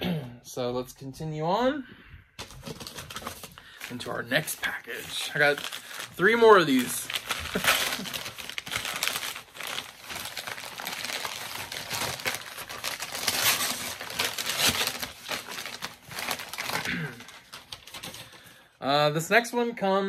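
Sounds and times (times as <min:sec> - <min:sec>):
packaging crinkling: 0:02.4 - 0:18.6.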